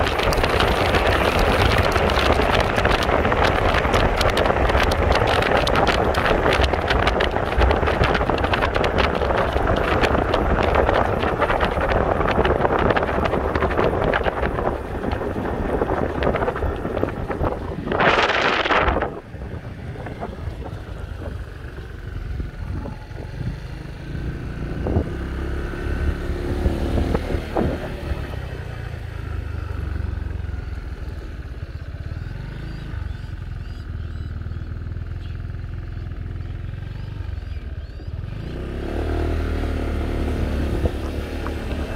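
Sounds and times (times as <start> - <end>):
wind rushing over microphone: 0.0 - 31.6, 38.2 - 41.9
motorbike engine: 0.0 - 41.9.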